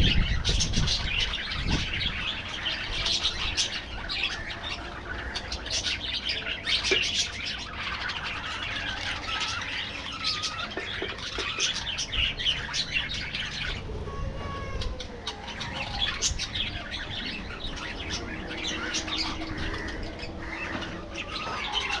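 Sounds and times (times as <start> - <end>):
budgerigars chattering: 0.0 - 13.9, 14.8 - 22.0.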